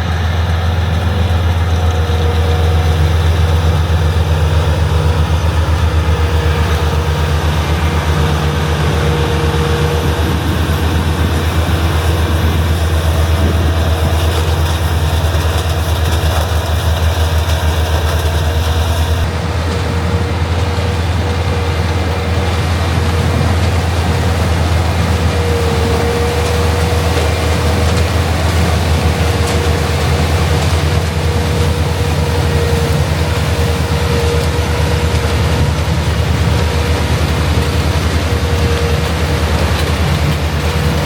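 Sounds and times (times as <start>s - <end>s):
heavy machinery engine running: 0.0s - 41.0s.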